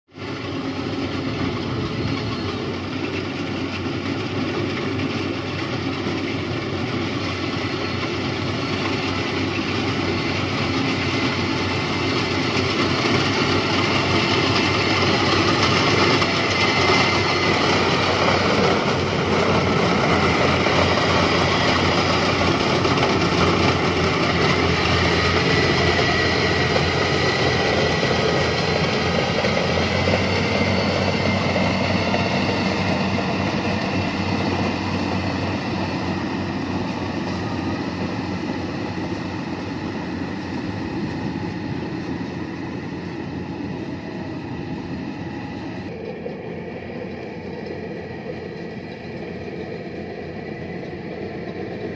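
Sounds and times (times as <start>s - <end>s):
combine harvester engine running: 0.1s - 51.9s.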